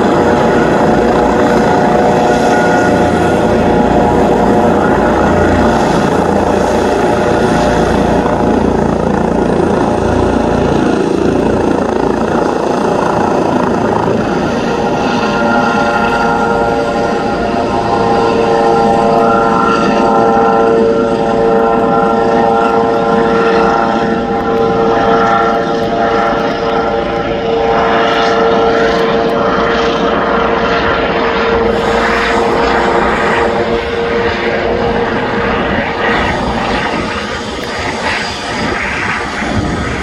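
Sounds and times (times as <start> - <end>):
helicopter rotor and turbine: 0.0 - 40.0
high turbine whine: 0.0 - 40.0.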